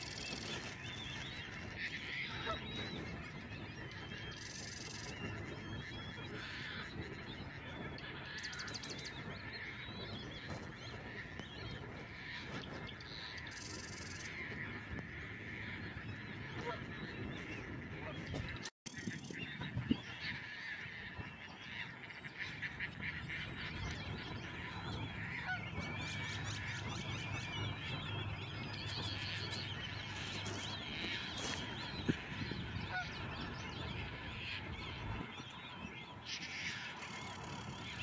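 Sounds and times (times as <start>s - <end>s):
birds chattering: 0.0s - 38.0s.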